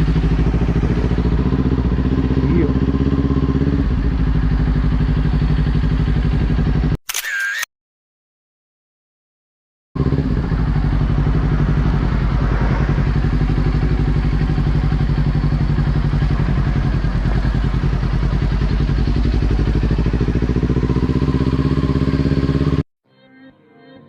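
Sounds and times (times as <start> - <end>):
motorcycle engine running steadily: 0.0 - 7.0, 10.0 - 22.9.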